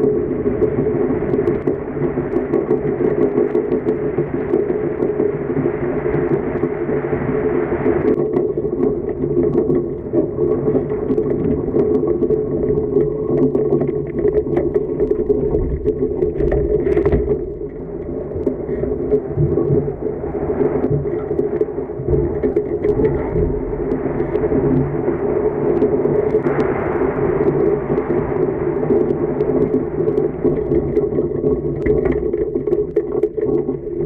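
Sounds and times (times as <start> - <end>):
muffled rush of wind and water: 0.0 - 34.0.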